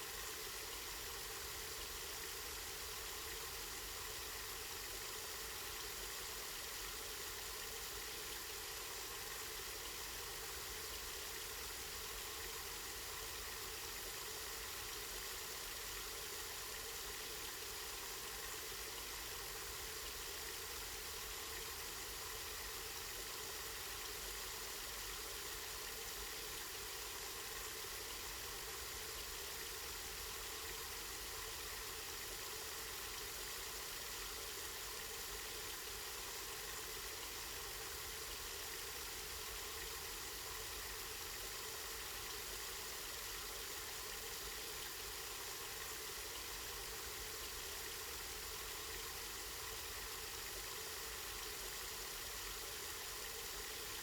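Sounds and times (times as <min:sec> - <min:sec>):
spring water flowing and splashing: 0:00.0 - 0:54.0.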